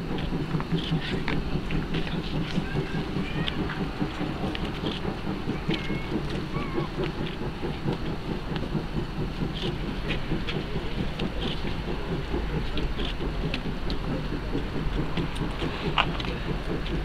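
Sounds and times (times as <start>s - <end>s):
train rumbling over steel viaduct: 0.0s - 17.0s.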